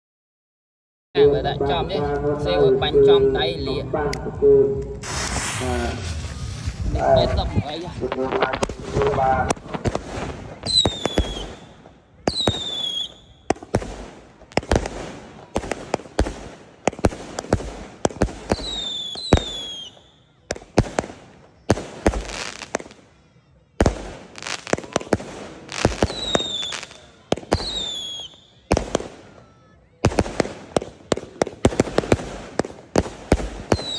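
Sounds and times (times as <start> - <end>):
firework launch bangs and bursts: 5.0 - 23.0, 23.8 - 29.4, 30.0 - 33.9.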